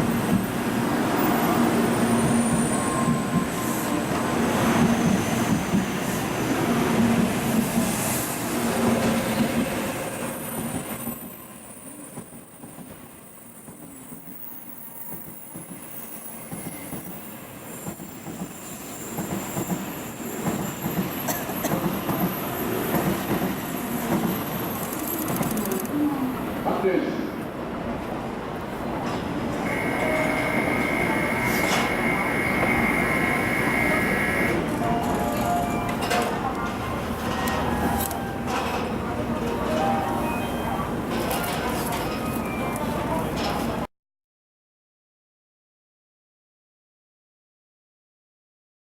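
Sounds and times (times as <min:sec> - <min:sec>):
train rumbling on rails: 0:00.0 - 0:43.9.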